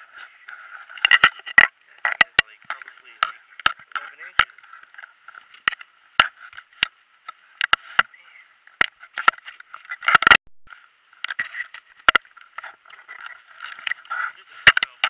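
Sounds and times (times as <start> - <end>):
rustling and crinkling: 0.0 - 15.0.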